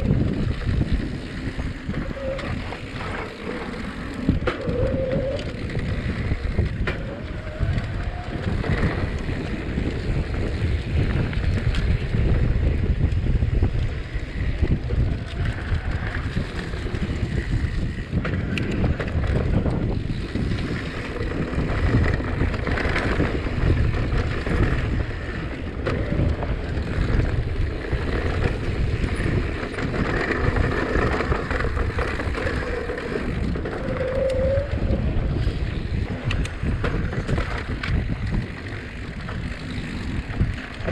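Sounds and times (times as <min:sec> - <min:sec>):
bike knocks and rattles: 0:00.0 - 0:40.9
bike tyres rumbling: 0:00.0 - 0:40.9
wind buffeting microphone: 0:00.0 - 0:40.9.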